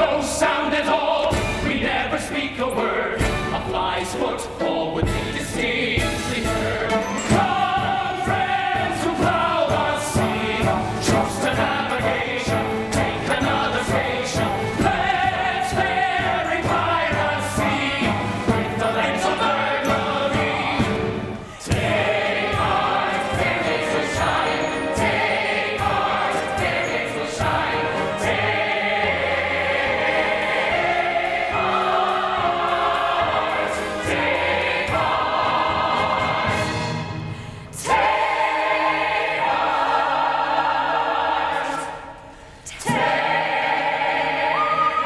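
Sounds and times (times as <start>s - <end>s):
musical accompaniment: 0.0s - 45.0s
opera chorus singing: 0.0s - 45.0s.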